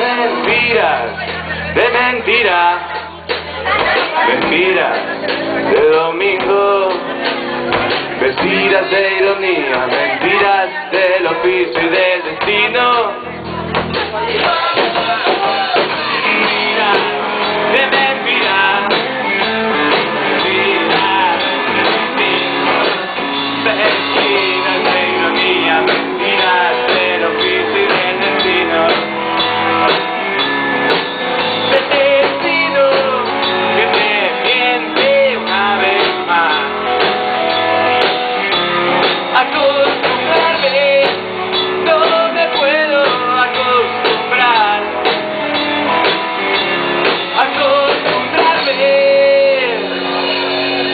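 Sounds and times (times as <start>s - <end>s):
rock band with electric guitars: 0.0s - 50.9s.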